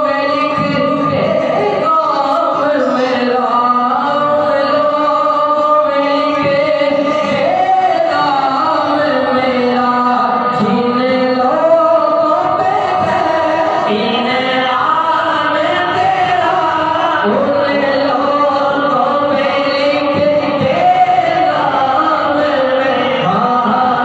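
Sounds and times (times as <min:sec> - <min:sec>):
man singing into microphone: 0:00.0 - 0:24.0.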